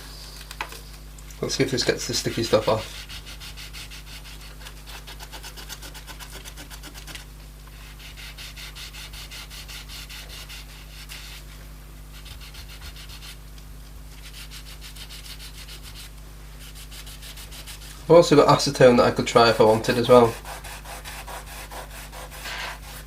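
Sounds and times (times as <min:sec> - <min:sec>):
rubbing back and forth: 0:01.5 - 0:13.4, 0:14.2 - 0:18.2, 0:18.8 - 0:23.0.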